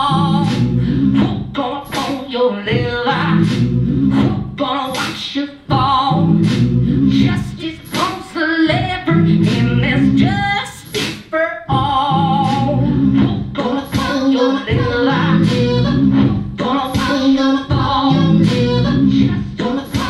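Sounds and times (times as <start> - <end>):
person singing wordlessly: 0.0 - 20.0.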